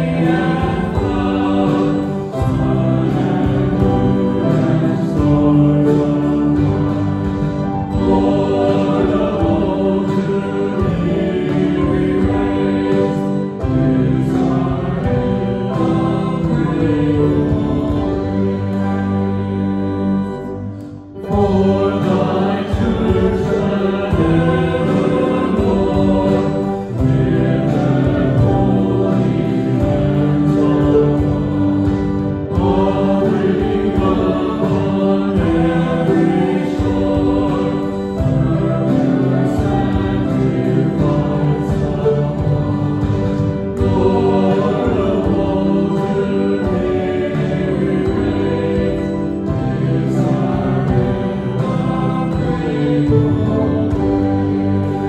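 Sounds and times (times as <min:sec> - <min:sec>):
acoustic guitar: 0:00.0 - 0:55.0
cello: 0:00.0 - 0:55.0
man singing: 0:00.0 - 0:55.0.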